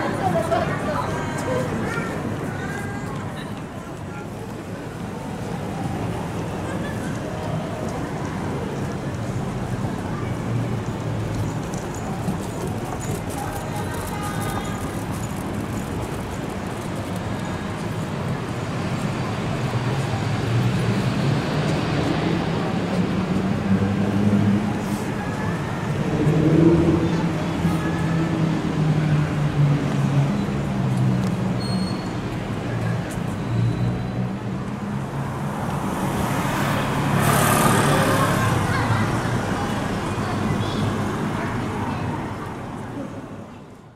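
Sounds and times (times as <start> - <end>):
road traffic hum: 0.0 - 43.9.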